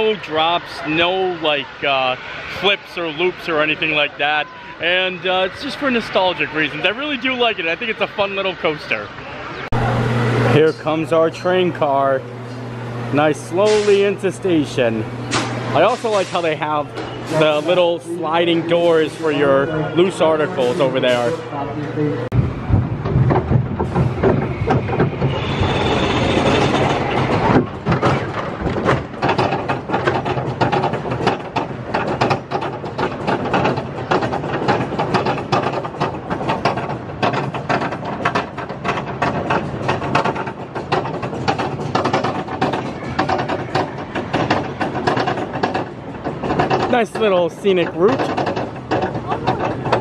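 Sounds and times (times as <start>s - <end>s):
roller coaster clicking rattle: 0.0s - 9.3s, 10.8s - 50.0s.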